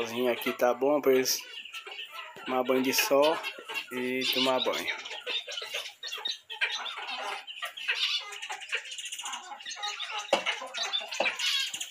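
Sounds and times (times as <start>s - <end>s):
small birds chirping and twittering: 0.0s - 11.9s.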